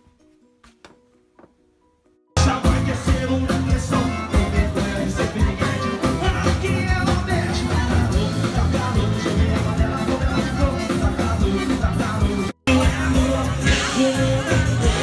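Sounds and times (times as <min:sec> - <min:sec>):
live band playing: 0:02.4 - 0:15.0
man singing into a microphone: 0:02.4 - 0:15.0.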